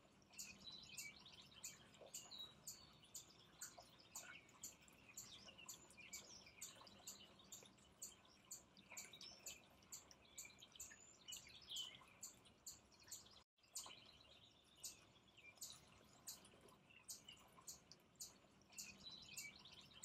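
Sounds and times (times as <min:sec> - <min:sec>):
fountain water trickling: 0:00.0 - 0:20.0
high bird chirps: 0:00.3 - 0:16.4, 0:17.1 - 0:20.0.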